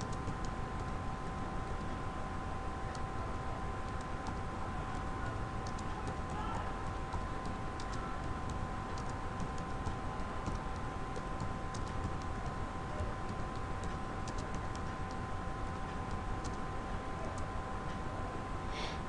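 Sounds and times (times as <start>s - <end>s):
computer keyboard typing: 0.0s - 2.0s, 3.8s - 17.5s
faint steady whine: 0.0s - 19.0s.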